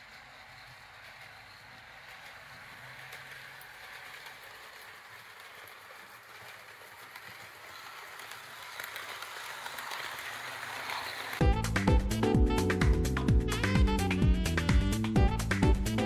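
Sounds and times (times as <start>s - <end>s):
model train running on track: 0.0s - 12.8s, 13.5s - 16.0s.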